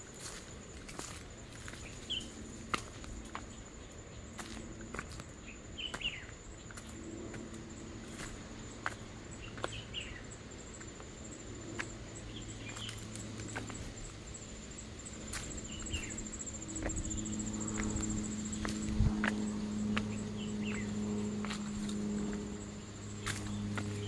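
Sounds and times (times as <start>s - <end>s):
footsteps on dry trail: 0.0s - 24.0s
insects trilling: 0.0s - 24.0s.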